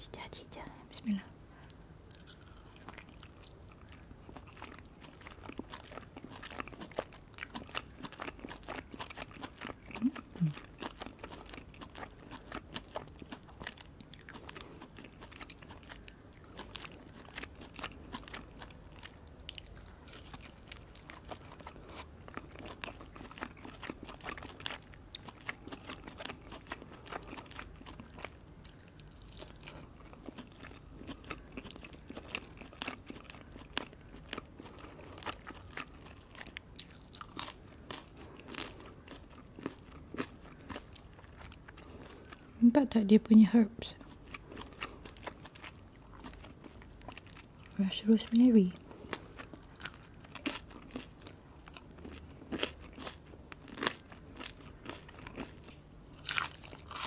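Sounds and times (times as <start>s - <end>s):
chewing with crunches: 1.6s - 57.0s.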